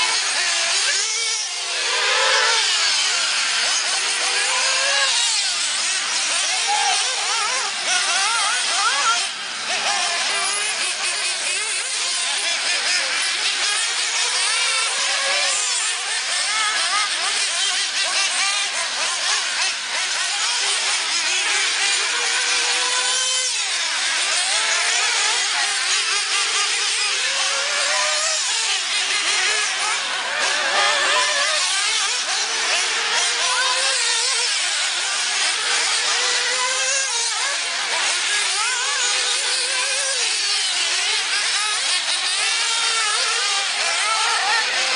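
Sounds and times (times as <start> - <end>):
small engines revving: 0.0 - 44.9.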